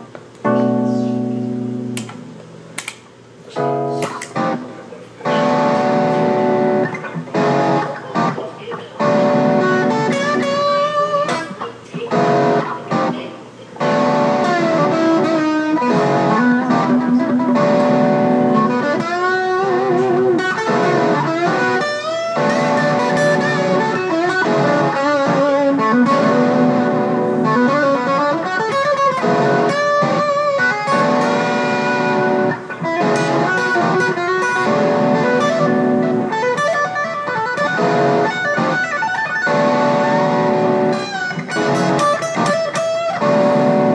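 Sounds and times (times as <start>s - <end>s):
distorted electric guitar lead: 0.0s - 43.9s.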